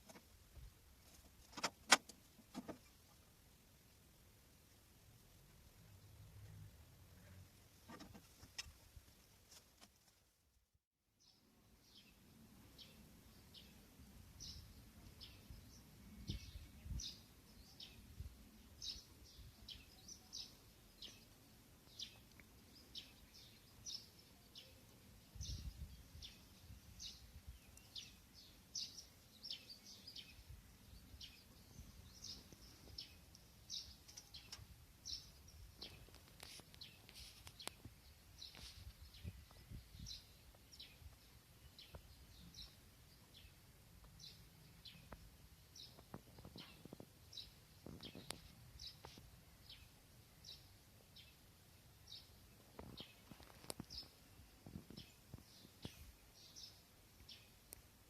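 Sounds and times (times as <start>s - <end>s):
small birds chirping: 11.1s - 58.0s.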